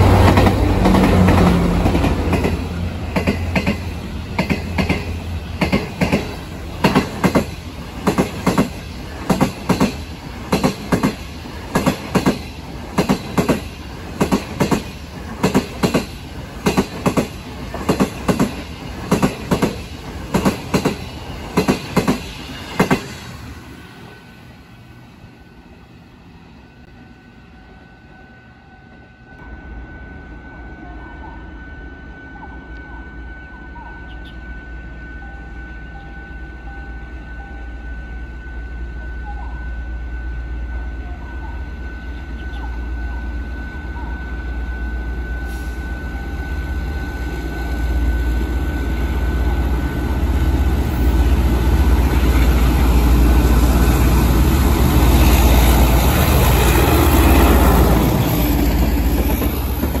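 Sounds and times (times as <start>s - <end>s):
train rumble: 0.0s - 60.0s
train wheel and rail noise: 0.0s - 60.0s.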